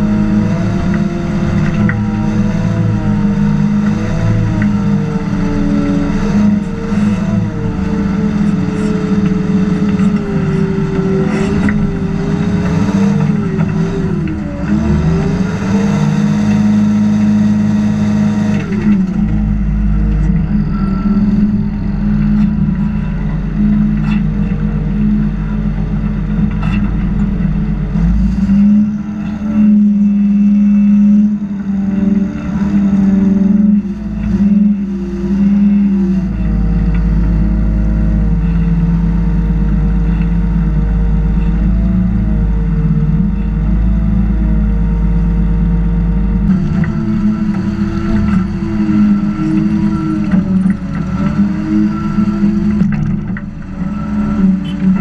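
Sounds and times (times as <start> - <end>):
excavator diesel engine under load: 0.0 - 55.0.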